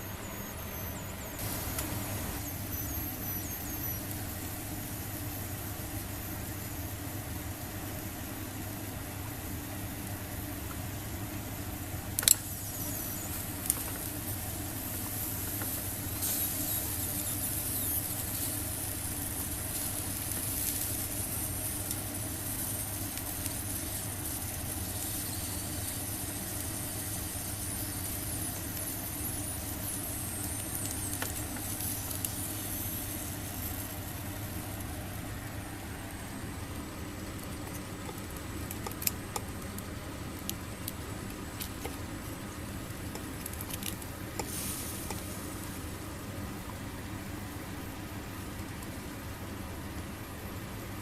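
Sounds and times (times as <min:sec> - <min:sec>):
steady low hum: 0:00.0 - 0:51.0
squid sizzling on grill: 0:00.1 - 0:48.4.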